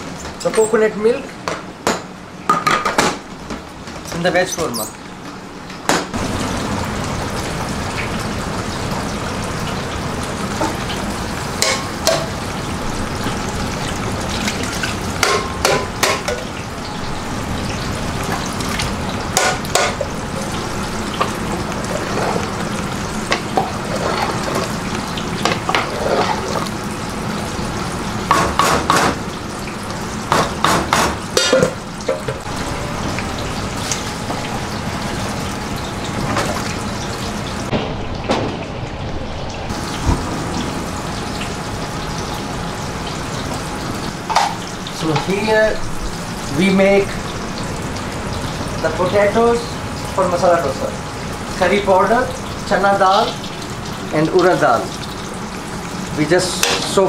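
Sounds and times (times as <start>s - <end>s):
pot sizzling: 6.1s - 37.7s, 39.7s - 57.0s.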